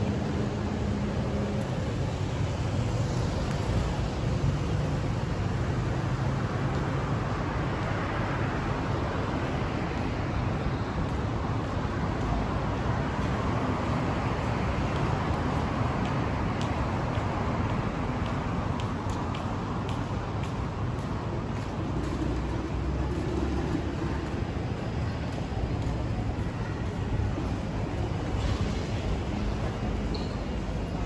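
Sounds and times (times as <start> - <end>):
vehicle rumble: 0.0 - 31.0.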